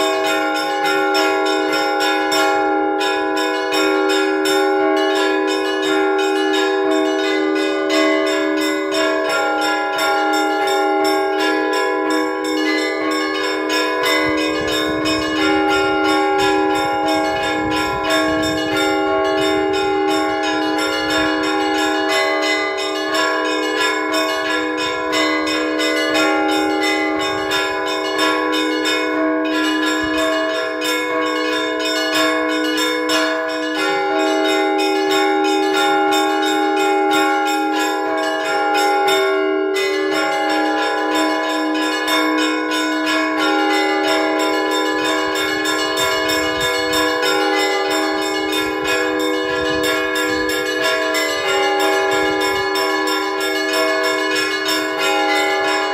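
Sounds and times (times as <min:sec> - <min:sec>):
larger bells ringing: 0:00.0 - 0:55.9
small bells pealing fast: 0:00.0 - 0:55.9.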